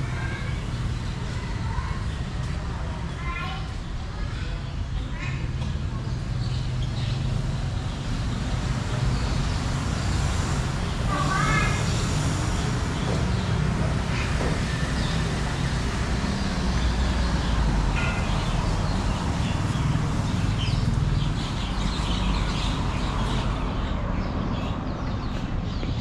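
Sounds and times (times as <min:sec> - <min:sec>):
engine and traffic rumble: 0:00.0 - 0:26.0.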